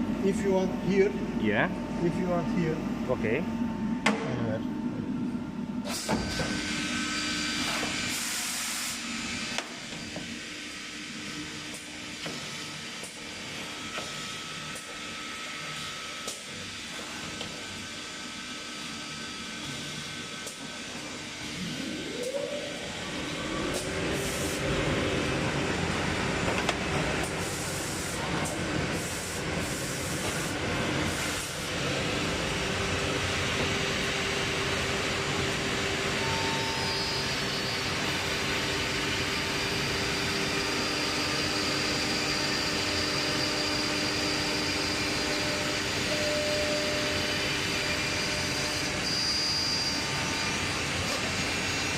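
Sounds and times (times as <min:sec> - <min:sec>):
milling machine spindle whine: 0:04.6 - 0:51.9.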